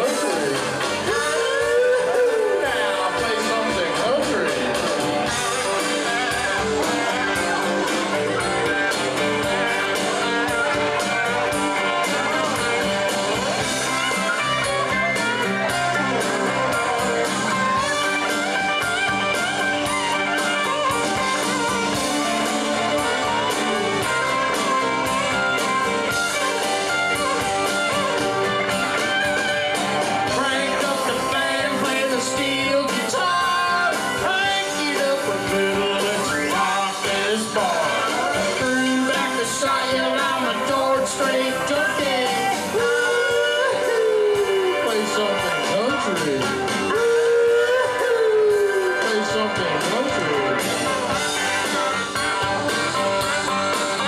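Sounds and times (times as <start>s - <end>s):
guitar-led song over sound system: 0.0s - 54.0s.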